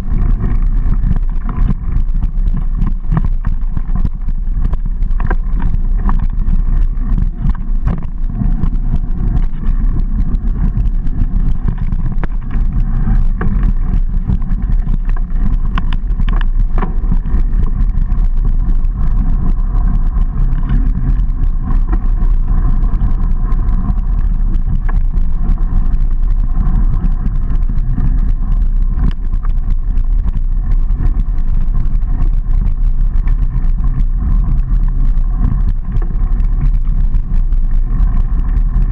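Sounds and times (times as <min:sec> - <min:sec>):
bike rattling and knocking: 0:00.0 - 0:38.9
bike tyres rumbling on dirt: 0:00.0 - 0:38.9
wind on microphone: 0:00.0 - 0:38.9.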